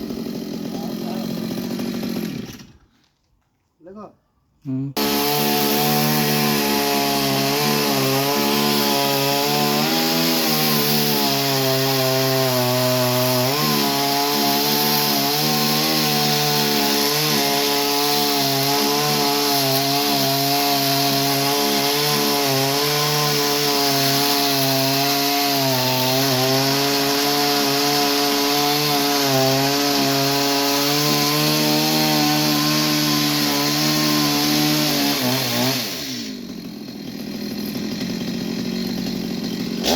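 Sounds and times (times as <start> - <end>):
chainsaw cutting wood: 0.0 - 3.3, 5.0 - 39.9.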